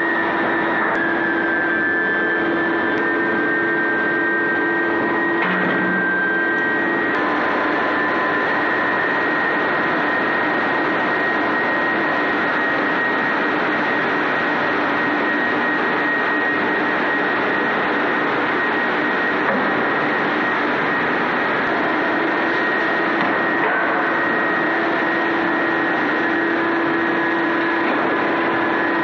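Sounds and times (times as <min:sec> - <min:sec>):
high machinery whine: 0:00.0 - 0:29.0
industrial machinery roar: 0:00.0 - 0:29.0.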